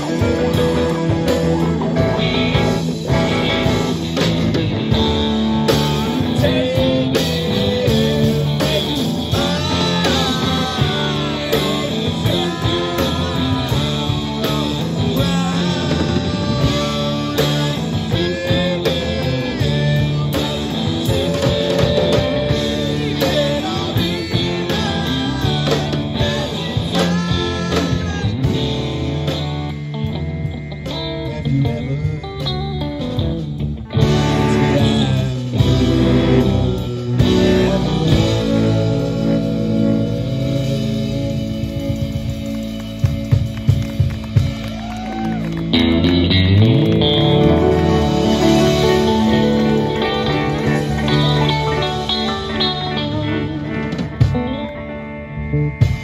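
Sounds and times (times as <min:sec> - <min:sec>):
drum kit: 0:00.0 - 0:55.0, 0:55.8 - 0:56.0
bass guitar: 0:00.0 - 0:56.0
electric guitars: 0:00.0 - 0:56.0
keyboard: 0:00.0 - 0:56.0.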